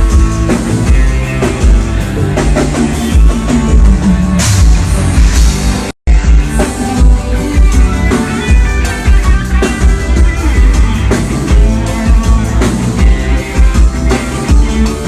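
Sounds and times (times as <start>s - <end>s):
band playing loud music: 0.0s - 15.0s.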